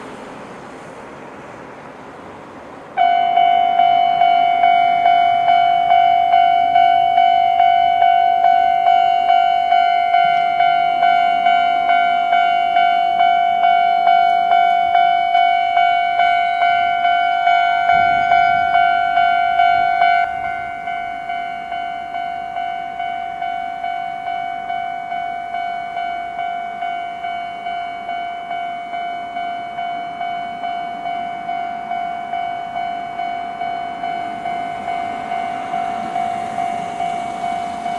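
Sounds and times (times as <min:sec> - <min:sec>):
electronic crossing bell pulsing: 0:03.0 - 0:37.9.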